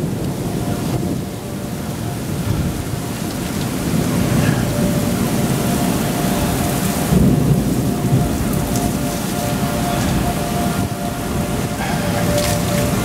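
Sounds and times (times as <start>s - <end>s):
faint siren wail: 0.0s - 13.0s
thunder rumbling: 0.0s - 13.0s
torrential rain pouring: 0.0s - 13.0s.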